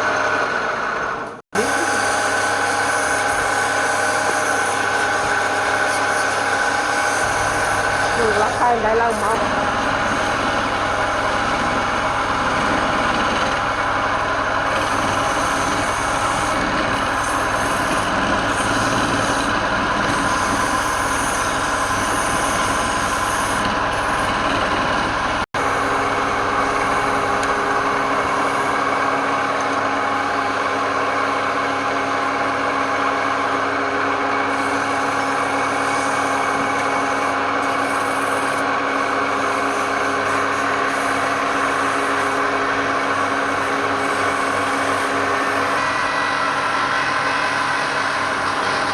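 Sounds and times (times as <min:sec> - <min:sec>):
woodturning lathe running: 0:00.0 - 0:48.9.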